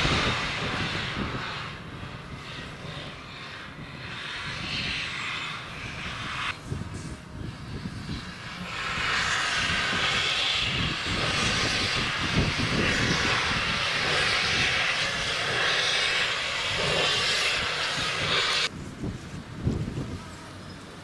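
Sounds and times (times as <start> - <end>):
steam locomotive hissing steam: 0.0 - 19.3
low engine rumble: 0.0 - 21.0.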